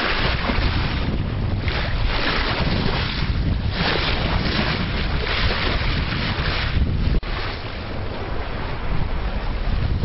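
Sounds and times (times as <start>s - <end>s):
sea water rushing along hull: 0.0s - 10.0s
wind buffeting microphone: 0.0s - 10.0s.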